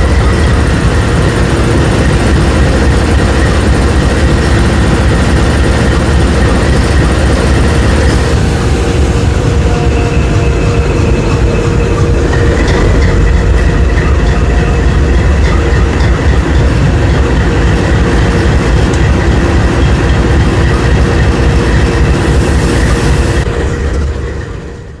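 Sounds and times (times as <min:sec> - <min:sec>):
freight train rumbling past: 0:00.0 - 0:25.0
wheels clacking over rails: 0:00.0 - 0:25.0.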